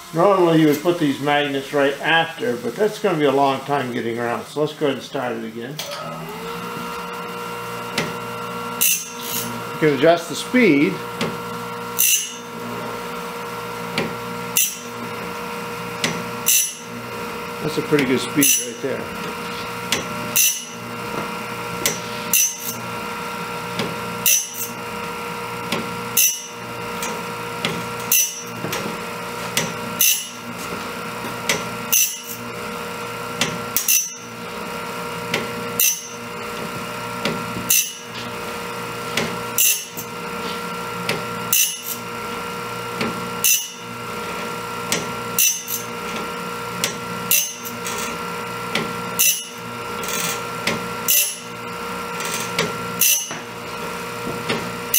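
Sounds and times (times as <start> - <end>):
motor and grinding wheel hum: 0.0 - 54.9.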